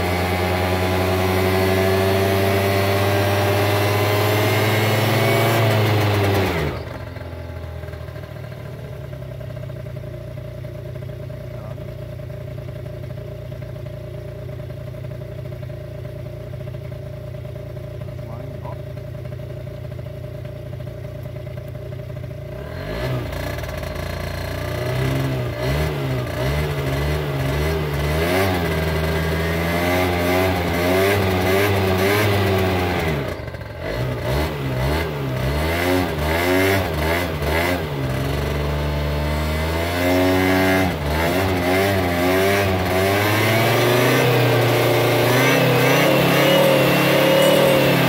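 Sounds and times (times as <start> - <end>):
scooter engine revving: 0.0 - 48.0.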